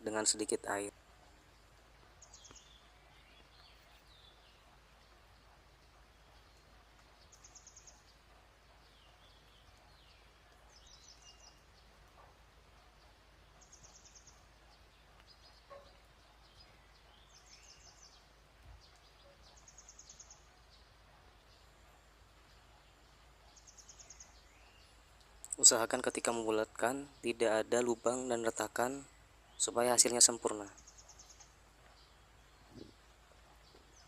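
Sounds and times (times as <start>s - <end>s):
faint birdsong trill: 0.0s - 34.0s
low room noise: 0.0s - 34.0s
soft bird chirps: 0.0s - 34.0s.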